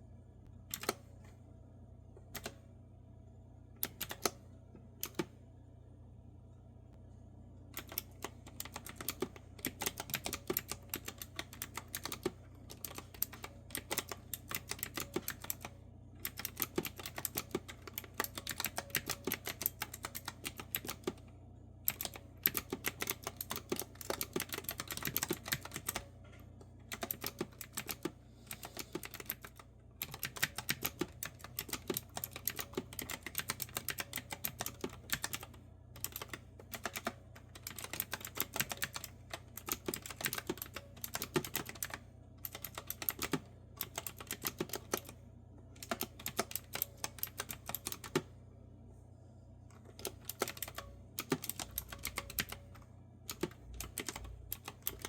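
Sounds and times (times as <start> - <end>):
faint low hum: 0.0 - 55.0
clicky keyboard typing: 0.7 - 1.0, 2.3 - 2.6, 3.8 - 4.4, 5.0 - 5.3, 7.8 - 21.2, 21.9 - 26.1, 26.8 - 45.2, 45.8 - 48.3, 49.7 - 55.0.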